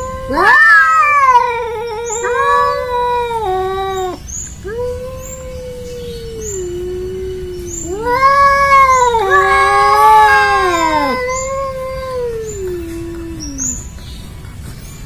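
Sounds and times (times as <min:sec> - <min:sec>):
cats yowling: 0:00.0 - 0:14.0.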